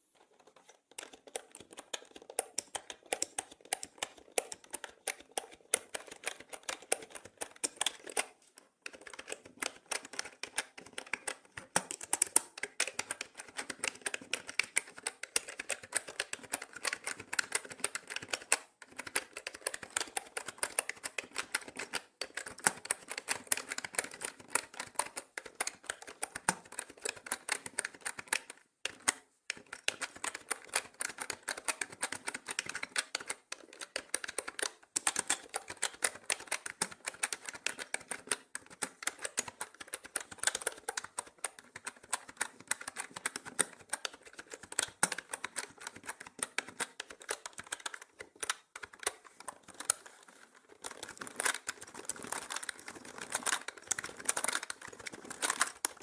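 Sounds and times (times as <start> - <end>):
fast typing on mechanical keyboard: 0.4 - 56.0.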